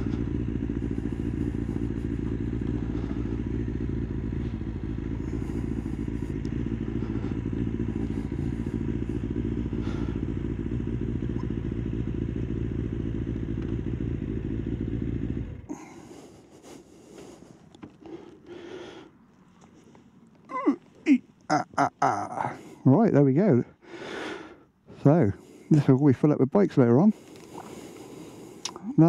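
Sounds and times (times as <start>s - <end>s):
motorcycle engine running: 0.0s - 23.8s, 25.0s - 29.0s.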